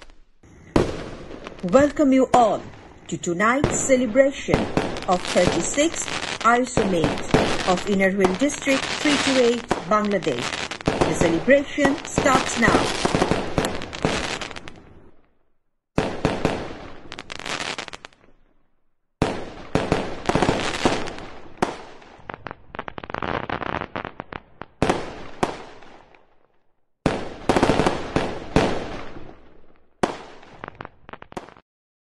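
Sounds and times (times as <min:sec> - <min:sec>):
fireworks bangs and crackling: 0:00.0 - 0:15.2, 0:16.0 - 0:18.4, 0:19.2 - 0:31.6.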